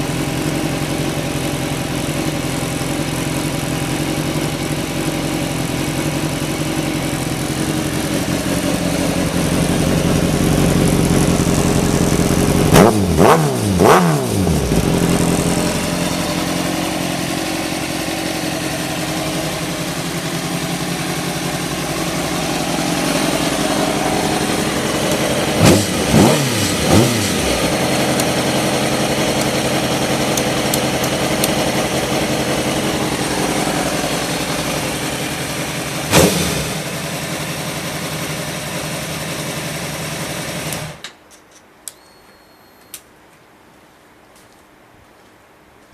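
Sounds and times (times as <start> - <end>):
motorcycle engine idling and revving: 0.0 - 41.1.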